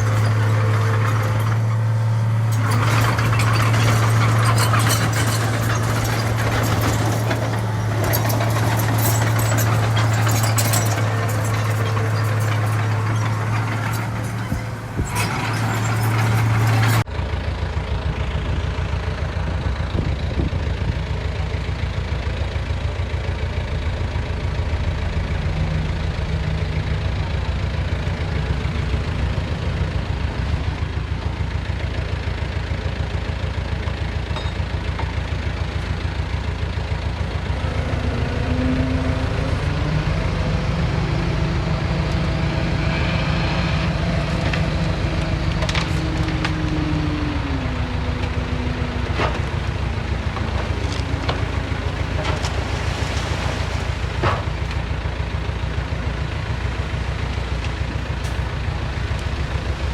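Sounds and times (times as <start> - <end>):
heavy diesel engine throbbing: 0.0 - 59.9.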